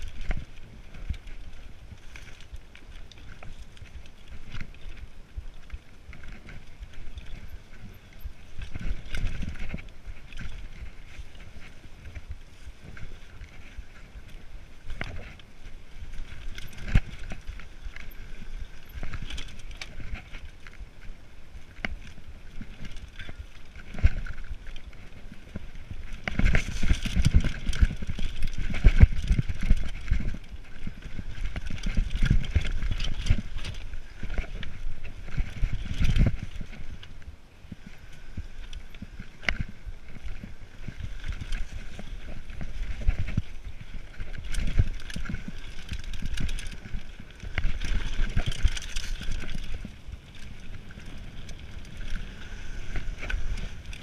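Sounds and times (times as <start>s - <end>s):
bike knocking and rattling: 0.0s - 54.0s
bike tyres rolling over dirt: 0.0s - 54.0s.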